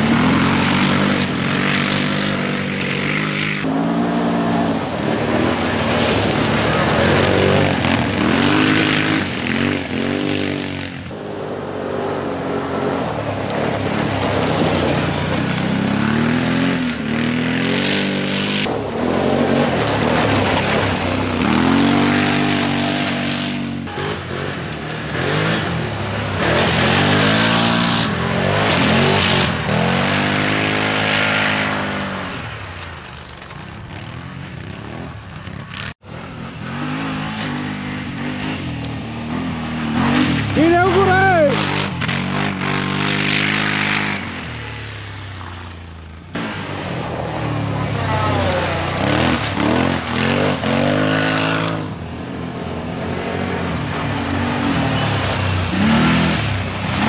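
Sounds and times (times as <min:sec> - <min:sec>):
quad bike engines revving: 0:00.0 - 0:57.0.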